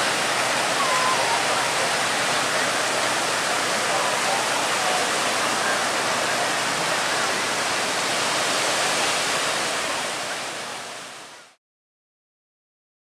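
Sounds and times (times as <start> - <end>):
ocean surf breaking: 0.0 - 11.5.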